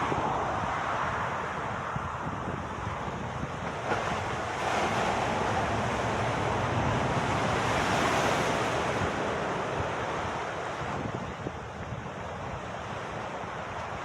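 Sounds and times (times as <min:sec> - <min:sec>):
sea waves breaking on beach: 0:00.0 - 0:14.0
wind buffeting microphone: 0:00.0 - 0:14.0.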